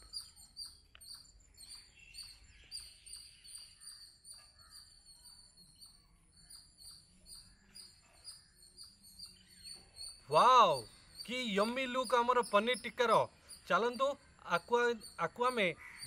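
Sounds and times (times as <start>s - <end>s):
faint high-pitched bird chirps: 0.0s - 16.0s.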